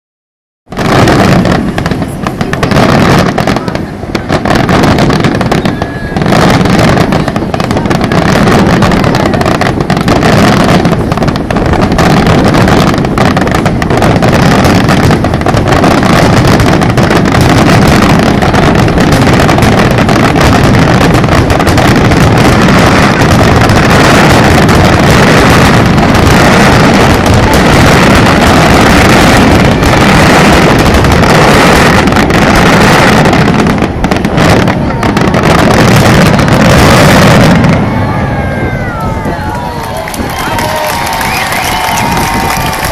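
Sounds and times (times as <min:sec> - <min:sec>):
fireworks barrage rumbling and crackling: 0:00.7 - 0:42.9.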